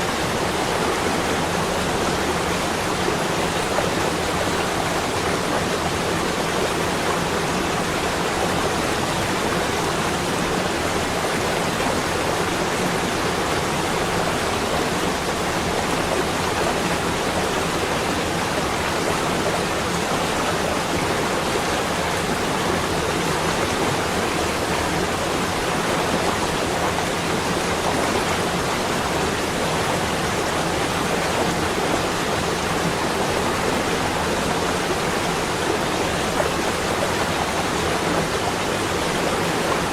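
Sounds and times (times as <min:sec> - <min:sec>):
steady rushing wind or water: 0:00.0 - 0:39.9.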